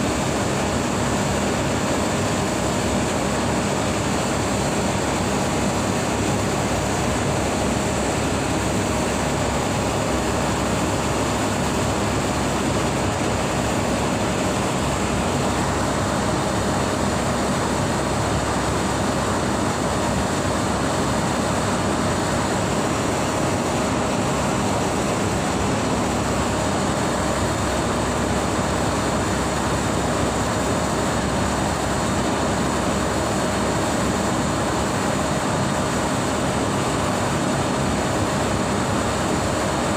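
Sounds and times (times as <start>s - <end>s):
hvac fan rushing: 0.0s - 39.9s.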